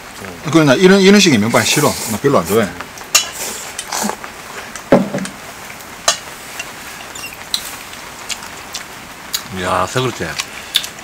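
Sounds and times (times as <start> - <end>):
rain hiss: 0.0 - 11.0
people eating noodles: 0.2 - 11.0.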